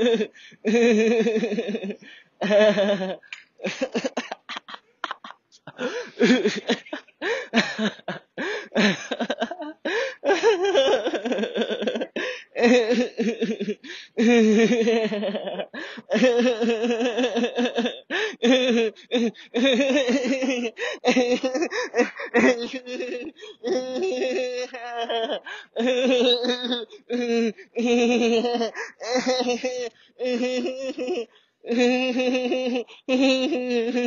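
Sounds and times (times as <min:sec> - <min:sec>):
man laughing: 0:00.0 - 0:31.3.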